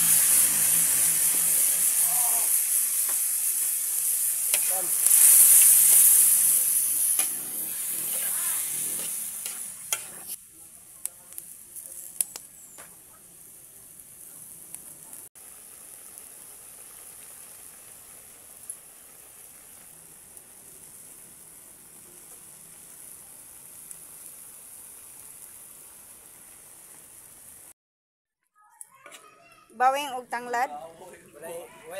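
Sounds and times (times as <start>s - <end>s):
food sizzling in a wok: 0.0s - 27.8s.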